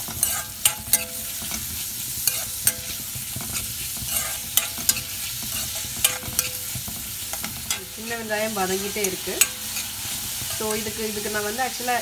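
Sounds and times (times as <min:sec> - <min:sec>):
ladle clinking and scraping pan: 0:00.0 - 0:08.0, 0:08.8 - 0:11.0
shallots sizzling in oil: 0:00.0 - 0:12.0.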